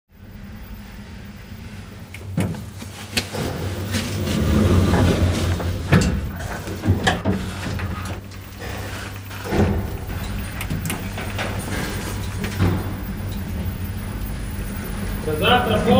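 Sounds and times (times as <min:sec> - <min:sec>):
lift humming: 0:00.1 - 0:15.9
rumbling noise: 0:00.1 - 0:15.9
lift car and door clanks: 0:02.0 - 0:15.9.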